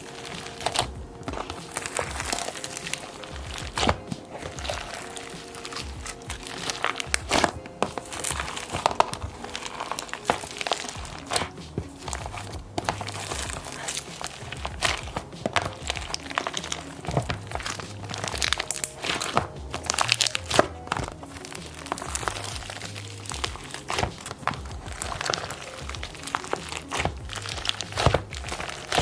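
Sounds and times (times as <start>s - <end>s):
background music: 0.0s - 29.0s
slime crackling and popping: 0.0s - 29.0s.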